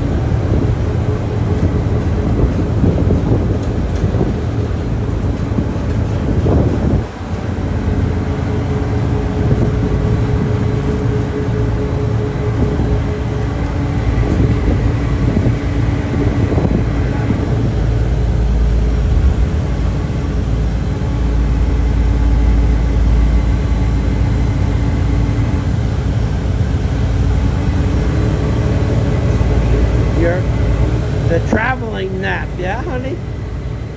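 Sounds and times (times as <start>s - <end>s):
diesel engines droning: 0.0s - 33.9s.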